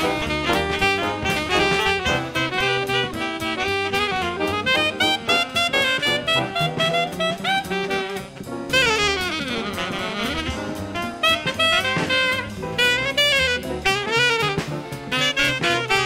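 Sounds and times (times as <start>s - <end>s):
alto saxophone lead line: 0.0s - 16.0s
bass and drums: 0.0s - 16.0s.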